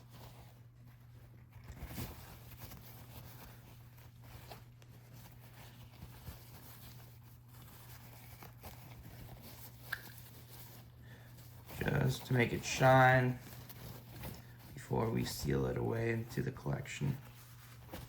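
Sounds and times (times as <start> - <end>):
cloth rubbing on metal: 0.0 - 18.0.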